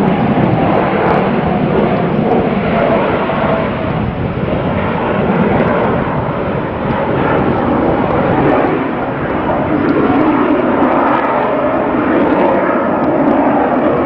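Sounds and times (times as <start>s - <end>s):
aircraft engine noise: 0.0s - 14.0s.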